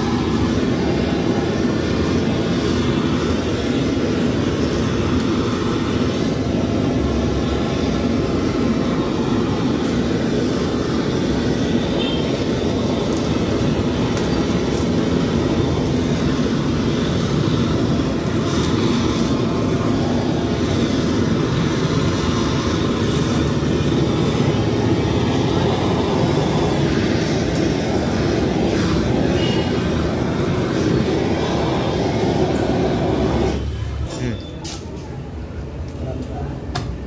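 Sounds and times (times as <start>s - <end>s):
blowtorch flame burning: 0.0s - 37.0s.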